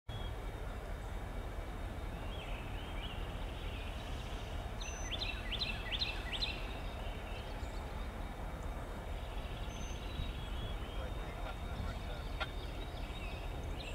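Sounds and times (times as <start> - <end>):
diesel locomotive idling: 0.1 - 13.9
songbird chirping: 0.1 - 13.9.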